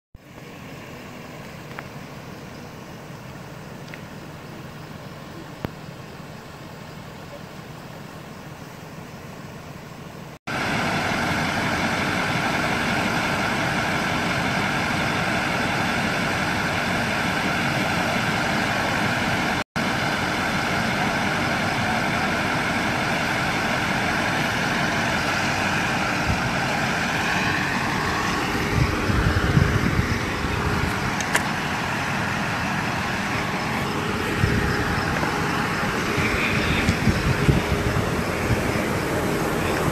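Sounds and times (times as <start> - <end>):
vehicle engines idling: 0.2 - 39.9.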